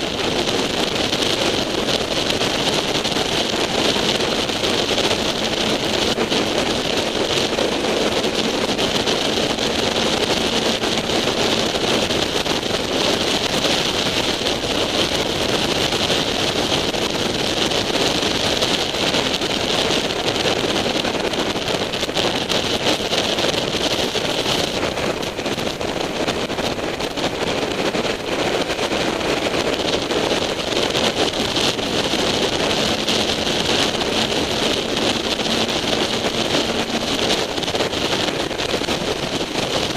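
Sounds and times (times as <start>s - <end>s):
motorcycle and road noise: 0.0s - 39.9s
wind rushing over camera: 0.0s - 39.9s.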